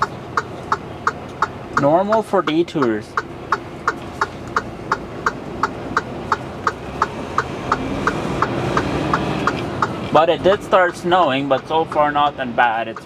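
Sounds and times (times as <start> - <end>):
sharp even ticking: 0.0 - 13.0
truck engine running: 0.0 - 13.0.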